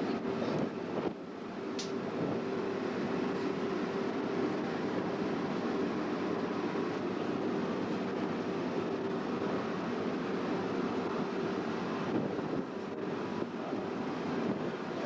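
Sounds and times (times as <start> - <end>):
constant low hum: 0.0 - 15.0
ship engines droning: 0.0 - 15.0.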